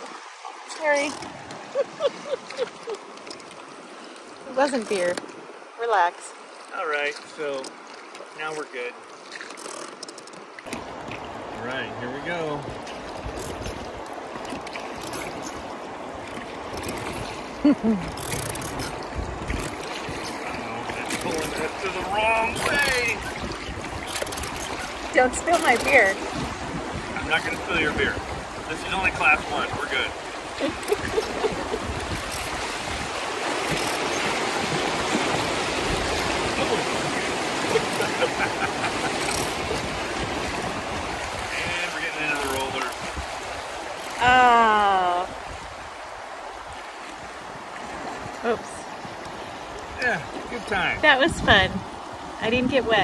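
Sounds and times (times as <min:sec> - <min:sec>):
oars pulling through water: 0:00.0 - 0:53.0
river current rushing: 0:00.0 - 0:53.0.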